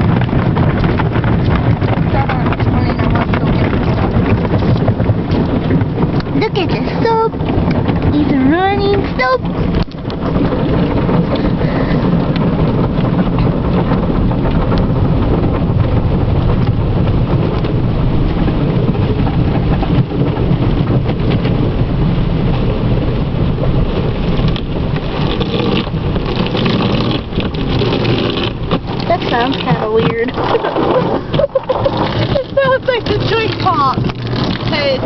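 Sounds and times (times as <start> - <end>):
deep rumble: 0.0 - 35.0
water spraying on car body: 0.0 - 35.0.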